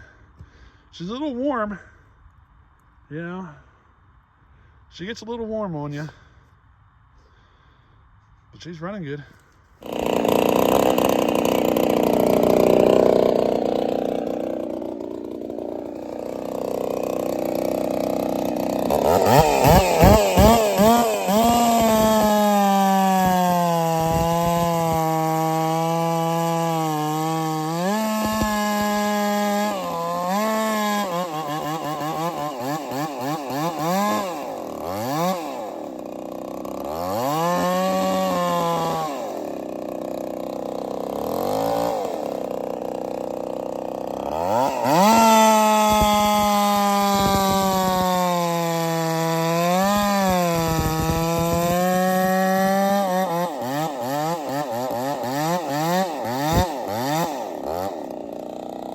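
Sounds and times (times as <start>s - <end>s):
chainsaw cutting wood: 9.8s - 58.9s.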